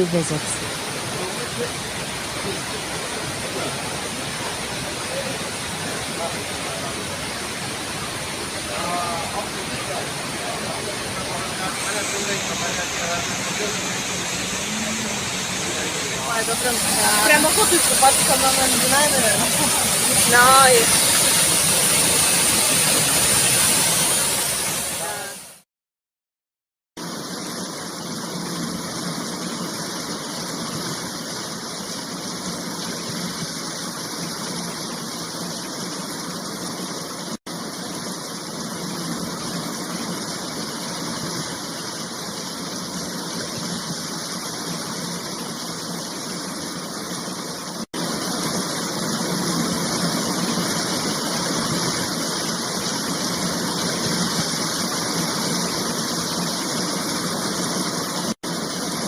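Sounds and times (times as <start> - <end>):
waterfall roaring: 0.0 - 25.6, 27.0 - 59.0.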